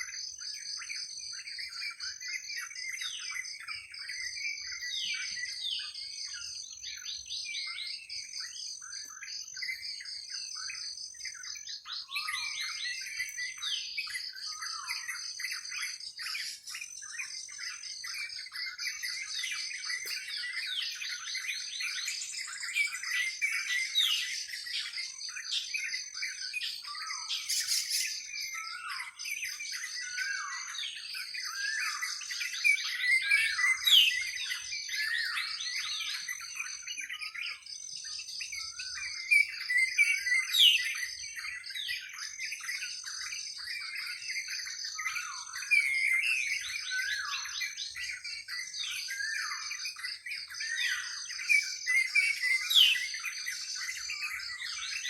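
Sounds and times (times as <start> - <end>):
birds chirping and calling: 0.0 - 55.0
downward-sweeping whistles: 0.0 - 55.0.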